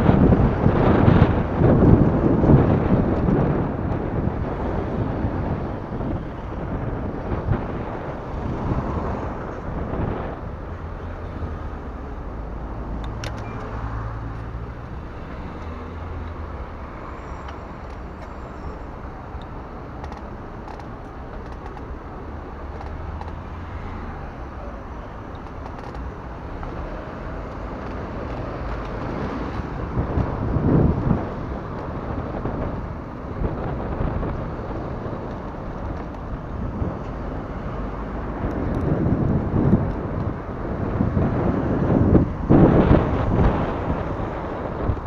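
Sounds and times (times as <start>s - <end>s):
low vehicle hum: 0.0s - 45.0s
road traffic noise: 0.0s - 45.0s
wind on microphone: 0.0s - 45.0s.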